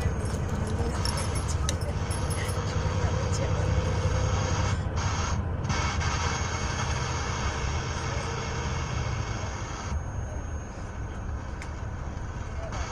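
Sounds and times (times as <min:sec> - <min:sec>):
vehicle rumble: 0:00.0 - 0:12.9.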